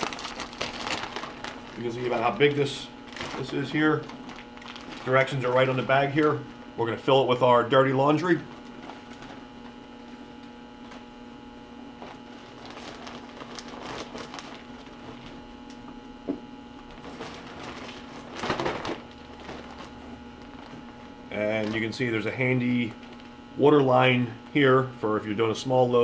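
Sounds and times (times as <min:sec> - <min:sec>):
dry bag rustling and crinkling: 0:00.0 - 0:11.2, 0:11.8 - 0:24.7
steady electrical hum: 0:00.0 - 0:26.0.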